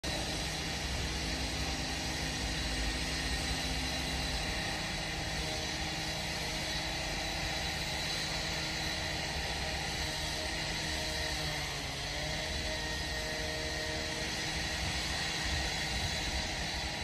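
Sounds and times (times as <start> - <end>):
railway station rumble and hiss: 0.0 - 17.0.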